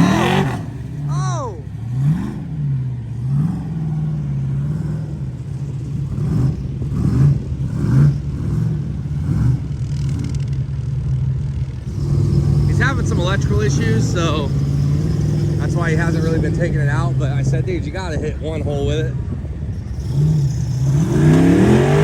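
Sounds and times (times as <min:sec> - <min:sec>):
engine revving hard: 0:00.0 - 0:10.5, 0:11.8 - 0:18.2, 0:19.9 - 0:22.0.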